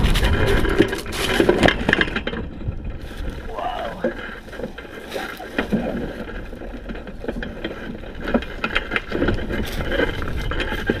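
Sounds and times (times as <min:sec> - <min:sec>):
dry stubble crackling and rustling: 0:00.0 - 0:11.0
wind rumble on microphone: 0:00.0 - 0:11.0.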